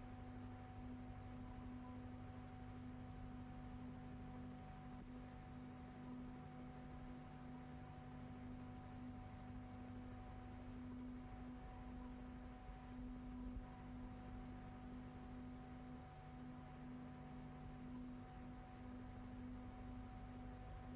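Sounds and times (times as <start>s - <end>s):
faint electrical hum: 0.0s - 20.9s.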